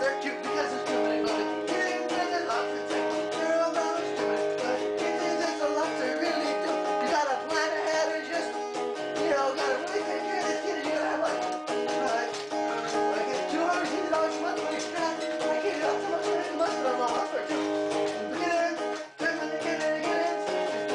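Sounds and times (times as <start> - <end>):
electric guitar strumming chords: 0.0 - 20.9
man singing: 0.0 - 20.9.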